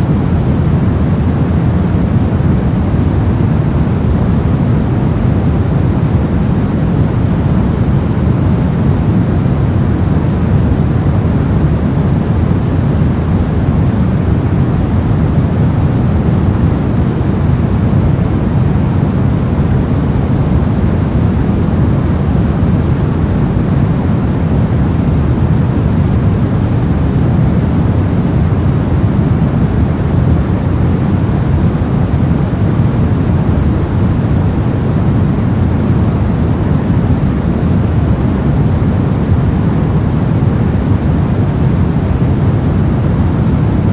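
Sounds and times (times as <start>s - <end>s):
brown noise hiss: 0.0s - 43.9s.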